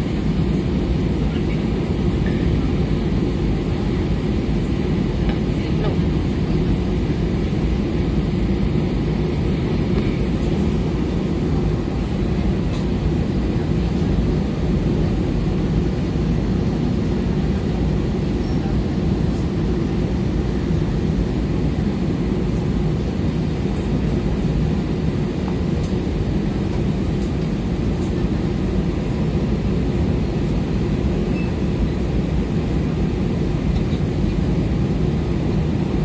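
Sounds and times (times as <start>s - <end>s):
jet engine and air-conditioning rumble: 0.0s - 36.0s.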